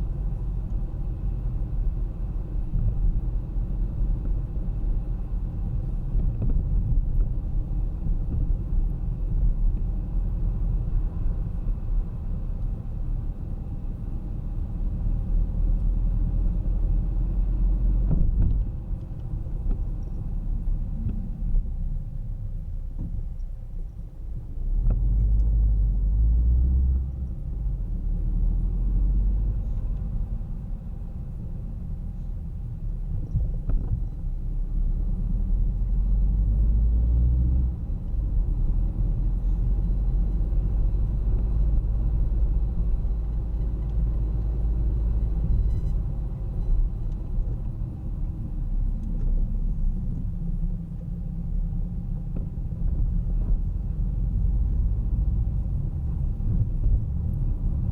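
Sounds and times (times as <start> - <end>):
car engine rumble: 0.0 - 57.9
tyres on road: 0.0 - 57.9.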